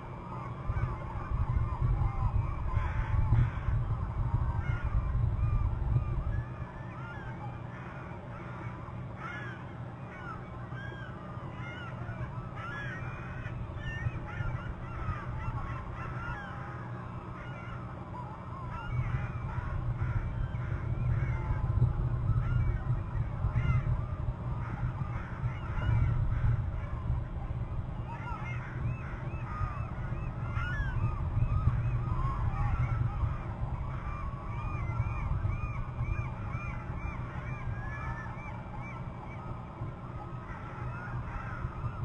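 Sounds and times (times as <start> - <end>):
birds chirping: 0.1 - 42.0.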